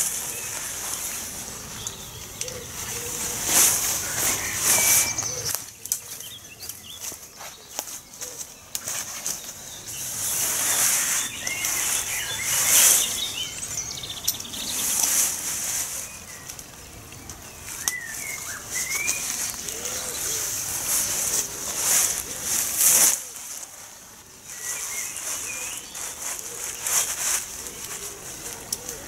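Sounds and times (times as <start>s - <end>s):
small birds chirping: 0.0s - 29.0s
tent fabric rustling: 0.0s - 29.0s.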